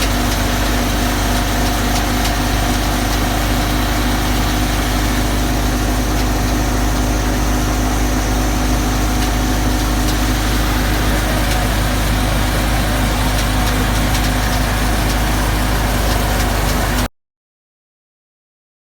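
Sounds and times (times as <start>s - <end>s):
tractor engine and thresher drone: 0.0s - 17.1s.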